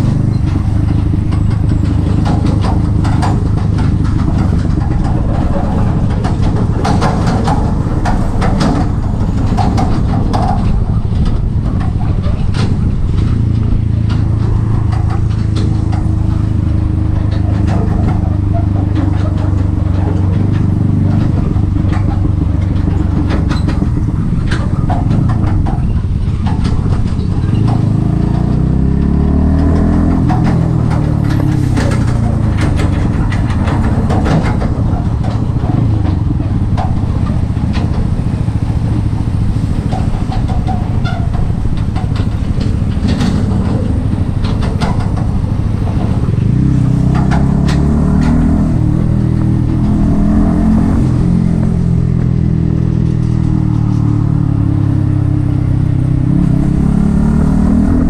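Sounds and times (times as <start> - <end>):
single-cylinder motorcycle engine running: 0.0 - 58.0.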